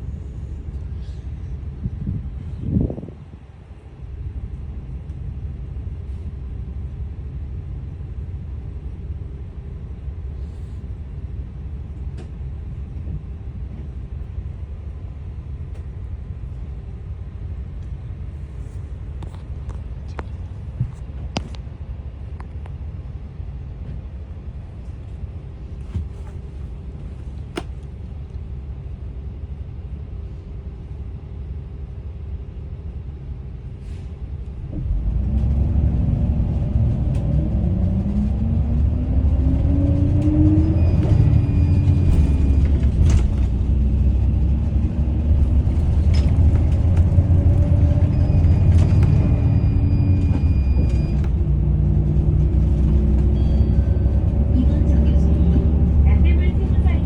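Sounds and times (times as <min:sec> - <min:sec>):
bus diesel engine idling: 0:00.0 - 0:35.5, 0:36.1 - 0:57.0.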